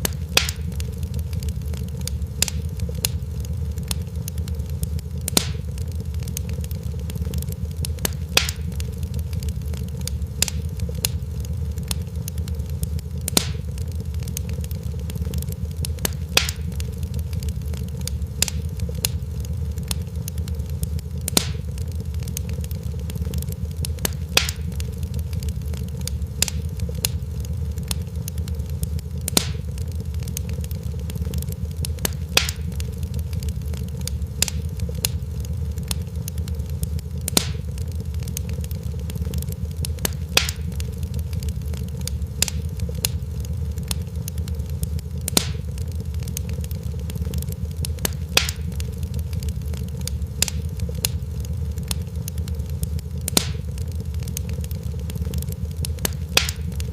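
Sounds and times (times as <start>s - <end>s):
fire crackling and popping: 0.0s - 56.9s.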